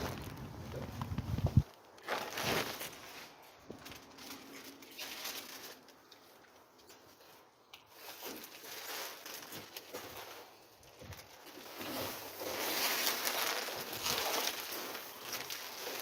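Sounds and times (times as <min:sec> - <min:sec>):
plastic bags rustling and crinkling: 0:00.0 - 0:16.0.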